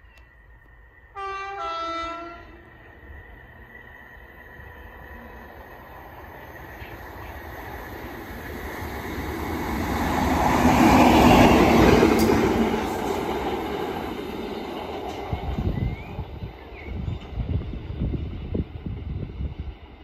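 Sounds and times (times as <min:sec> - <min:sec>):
freight train passing: 0:00.0 - 0:20.0.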